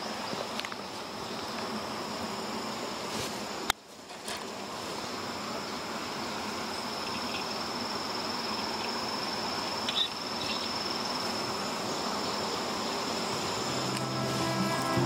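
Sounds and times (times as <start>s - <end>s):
background hiss: 0.0s - 15.0s
insects chorus: 0.0s - 15.0s.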